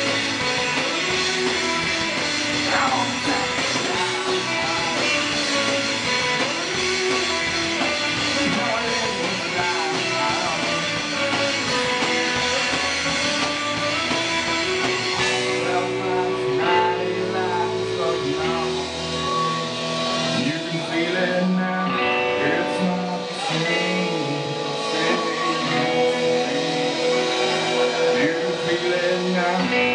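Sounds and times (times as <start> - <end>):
drums: 0.0 - 29.9
electric guitar: 0.0 - 29.9.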